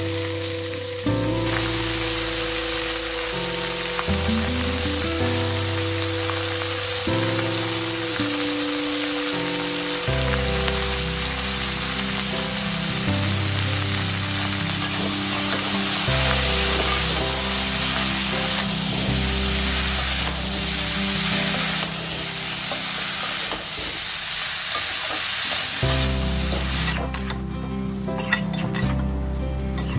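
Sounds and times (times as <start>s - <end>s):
background music of held notes: 0.0s - 24.1s, 24.8s - 29.9s
vegetables sizzling in oil: 0.0s - 29.9s.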